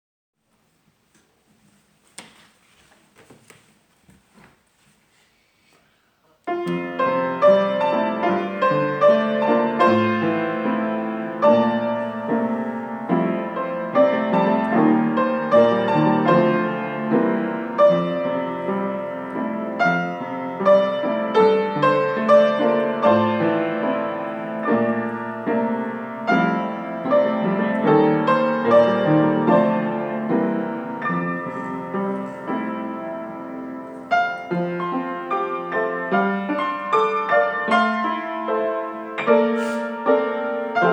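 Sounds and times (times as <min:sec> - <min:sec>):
piano music: 0:06.5 - 0:40.9.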